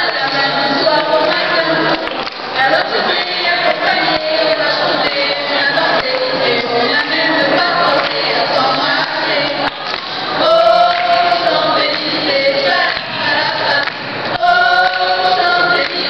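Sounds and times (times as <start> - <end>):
group singing in harmony: 0.0 - 16.0.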